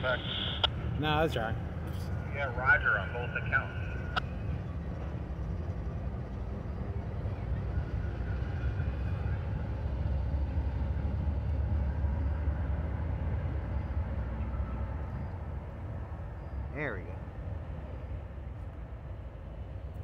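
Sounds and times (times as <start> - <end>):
freight train rumbling over bridge: 0.0 - 20.0.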